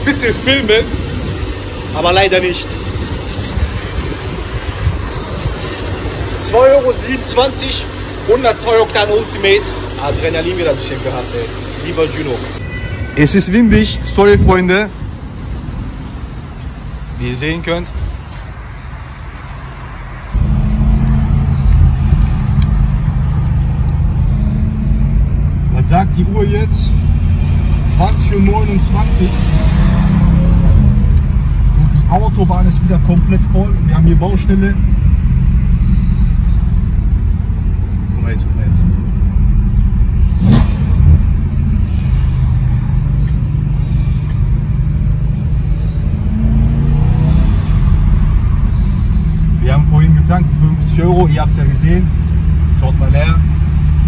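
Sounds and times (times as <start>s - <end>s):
car engine droning: 0.0s - 12.8s, 17.4s - 54.0s.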